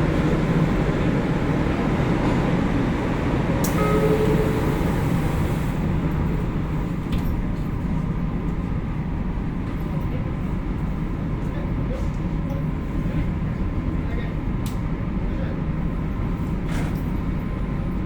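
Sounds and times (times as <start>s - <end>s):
train wheels and motors rumbling: 0.0s - 18.0s.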